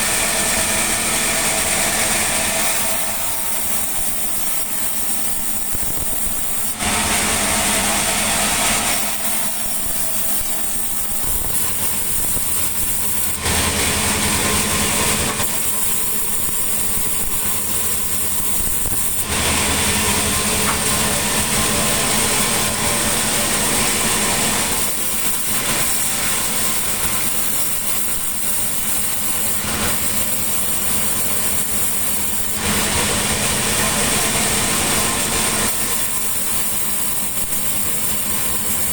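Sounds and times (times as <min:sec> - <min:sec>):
saw cutting wood hiss: 0:00.0 - 0:38.9
sawmill machinery droning: 0:00.0 - 0:38.9.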